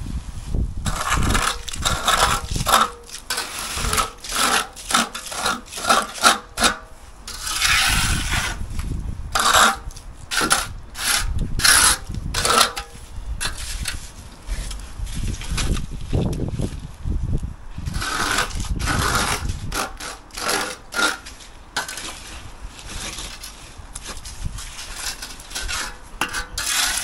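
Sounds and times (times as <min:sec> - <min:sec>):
trowel scraping concrete: 0:00.8 - 0:15.8, 0:17.8 - 0:27.0.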